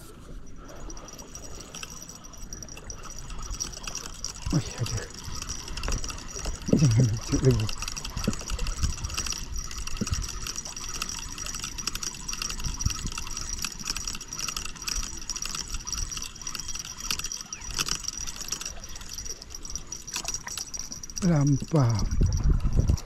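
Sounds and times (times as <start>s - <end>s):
fishing reel ticking: 0.0s - 23.0s.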